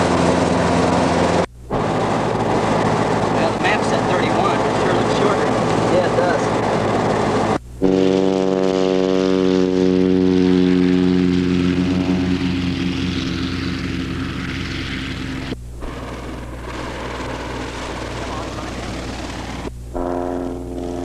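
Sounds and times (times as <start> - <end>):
propeller engine drone: 0.0 - 21.0.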